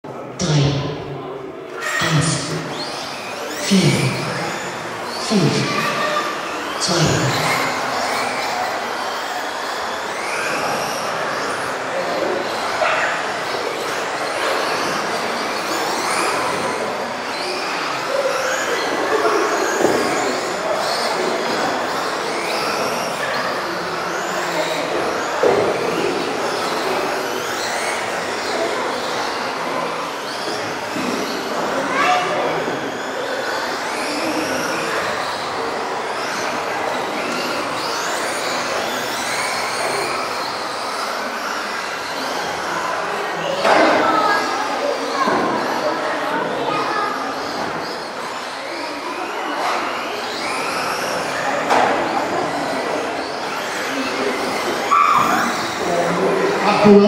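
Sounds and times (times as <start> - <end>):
rc car motors whining: 1.1 - 57.0.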